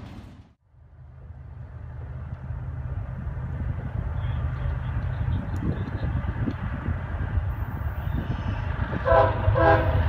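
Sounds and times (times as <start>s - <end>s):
train rumbling by: 0.0s - 10.0s.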